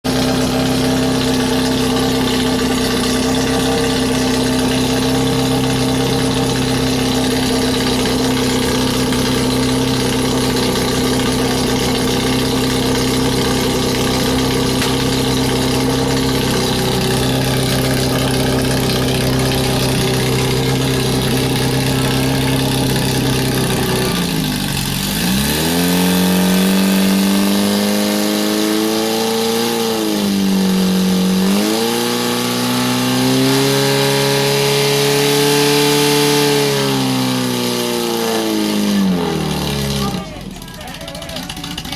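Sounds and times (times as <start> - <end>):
petrol engine of fire pump running: 0.0 - 41.9.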